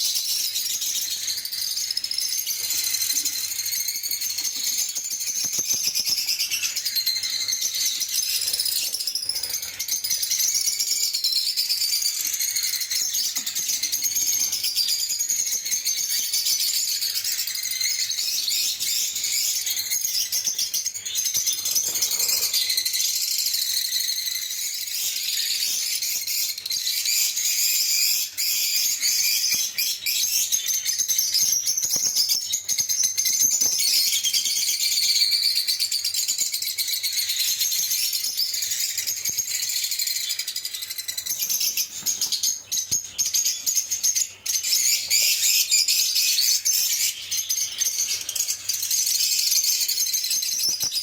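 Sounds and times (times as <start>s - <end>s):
lovebirds chirping and chattering: 0.0s - 51.0s.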